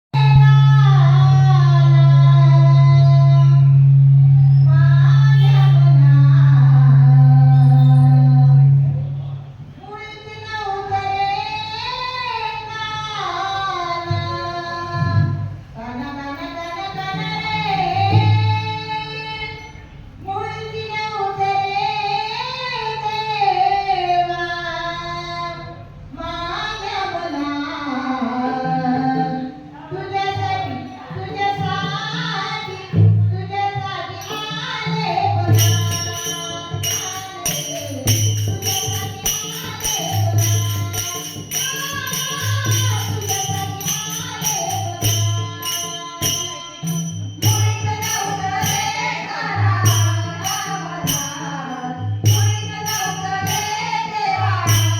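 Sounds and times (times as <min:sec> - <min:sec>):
woman singing: 0:00.1 - 0:08.9, 0:09.8 - 0:54.9
percussion beat with drum thumps: 0:00.1 - 0:23.8, 0:26.0 - 0:54.9.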